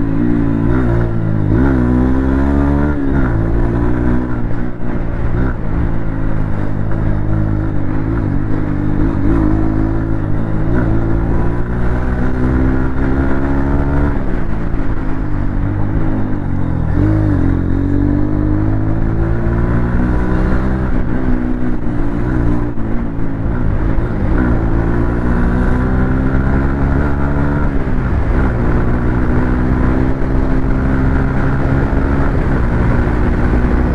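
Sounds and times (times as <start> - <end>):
motorcycle exhaust under throttle: 0.0 - 33.9.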